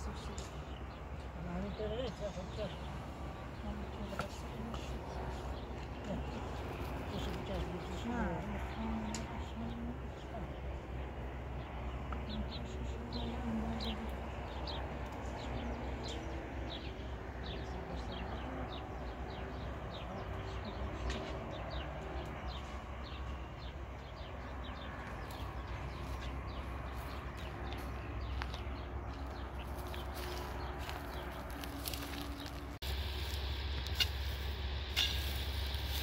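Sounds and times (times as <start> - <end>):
small birds chirping: 0.0 - 36.0
steady low rumble: 0.0 - 36.0.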